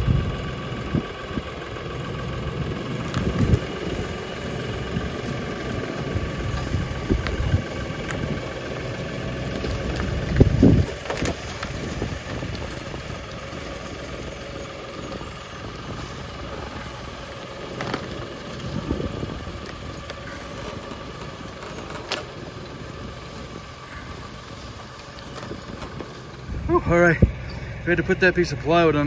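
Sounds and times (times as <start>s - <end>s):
tractor diesel engine idling: 0.0s - 29.0s.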